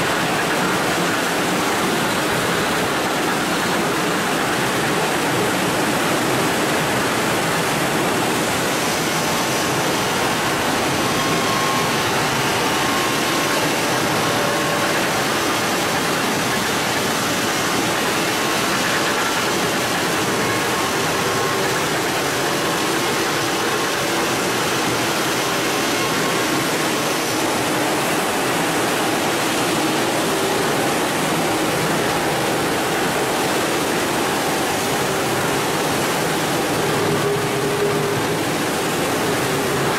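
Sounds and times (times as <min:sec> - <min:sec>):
water and slurry rushing: 0:00.0 - 0:39.9.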